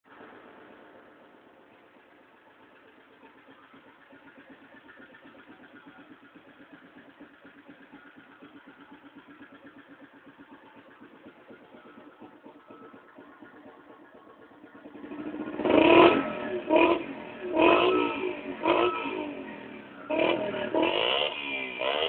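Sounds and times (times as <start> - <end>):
engine idling with lumpy pulse: 0.0 - 22.0.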